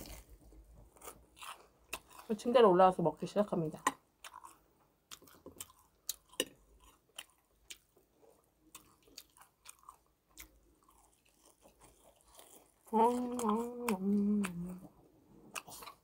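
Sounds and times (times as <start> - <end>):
chewing and crunching snacks: 0.0 - 2.9, 3.6 - 16.0.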